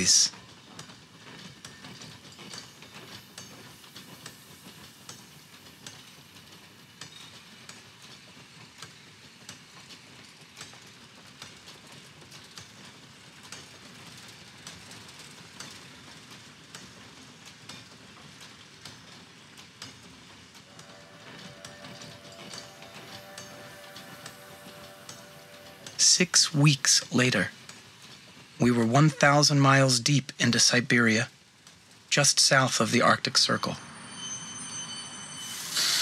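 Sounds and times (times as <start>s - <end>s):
train rumble: 0.0s - 36.0s
wheels clicking on rails: 0.0s - 36.0s.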